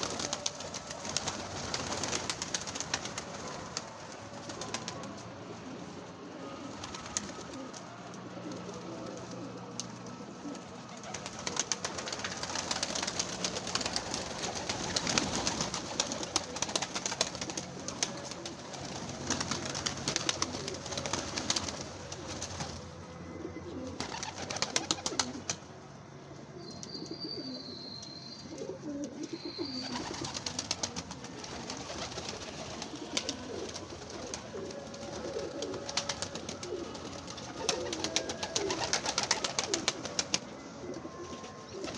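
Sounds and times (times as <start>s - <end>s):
pigeons cooing: 0.0s - 25.7s, 26.4s - 41.9s.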